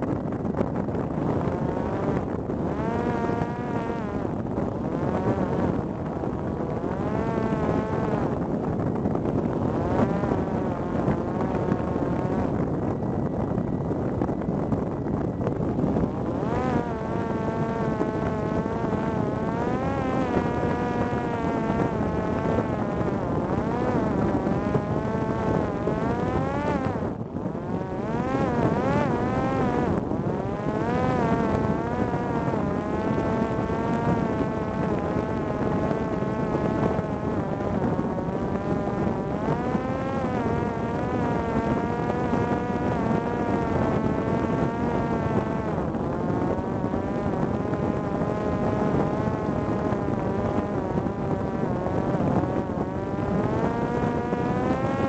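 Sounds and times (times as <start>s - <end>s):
drone propeller motor whining: 0.0s - 55.0s.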